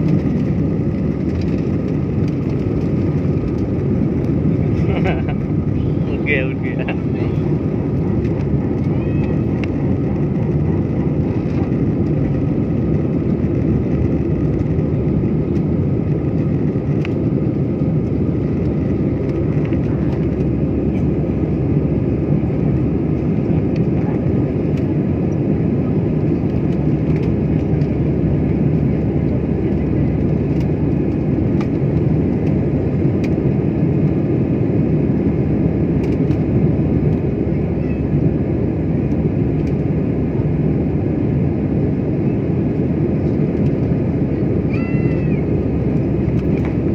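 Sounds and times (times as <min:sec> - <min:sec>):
jet engine cabin roar: 0:00.0 - 0:46.9.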